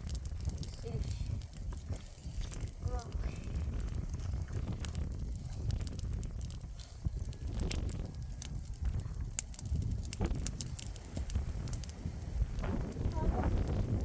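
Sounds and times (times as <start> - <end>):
sharp clicks and crunches: 0.0 - 13.9
wind rumbling on microphone: 0.0 - 14.0.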